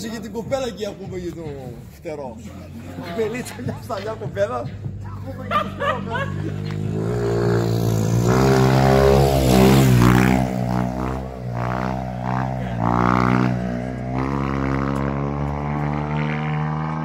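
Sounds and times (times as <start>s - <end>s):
motorcycle engine revving: 2.5s - 17.0s.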